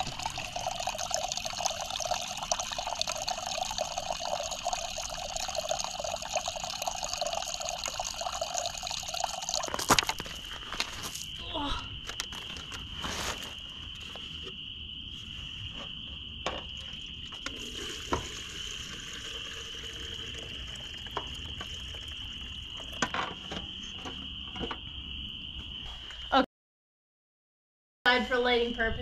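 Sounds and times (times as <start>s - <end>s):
high-pitched insect trill: 0.0s - 26.5s.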